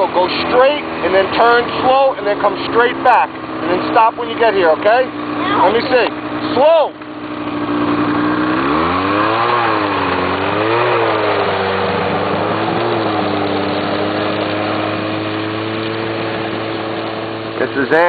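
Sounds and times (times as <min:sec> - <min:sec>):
snowmobile engine revving: 0:00.0 - 0:18.0.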